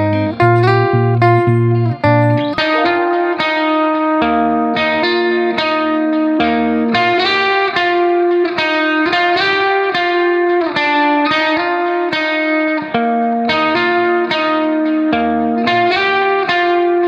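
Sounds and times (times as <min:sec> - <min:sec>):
guitar plucking a melody: 0:00.0 - 0:17.0.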